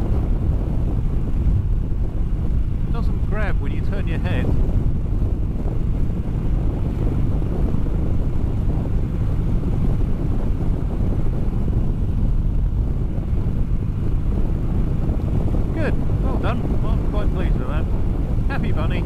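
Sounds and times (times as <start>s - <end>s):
road and engine rumble: 0.0s - 19.0s
wind buffeting on microphone: 0.0s - 19.0s.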